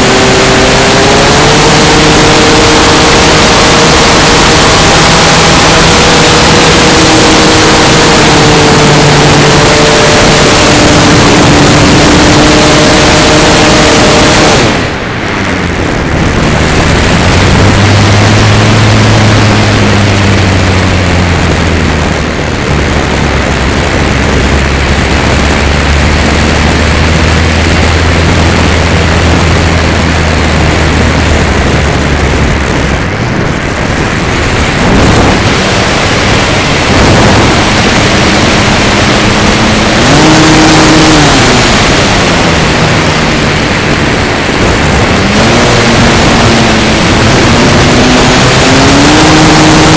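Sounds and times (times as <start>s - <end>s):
electric motor and propeller hum: 0.0s - 49.9s
wind noise on microphone: 0.0s - 49.9s.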